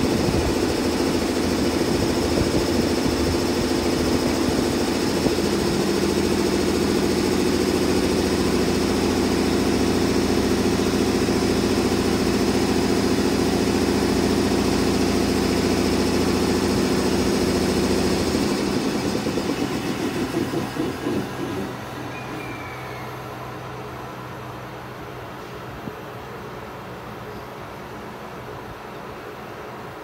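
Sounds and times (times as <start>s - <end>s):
air compressor humming: 0.0s - 25.9s.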